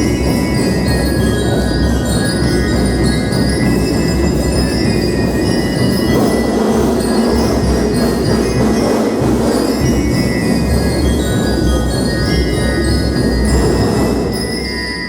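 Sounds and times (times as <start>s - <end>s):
marching band drumming: 0.0s - 14.8s
bell lyres ringing: 0.0s - 15.0s.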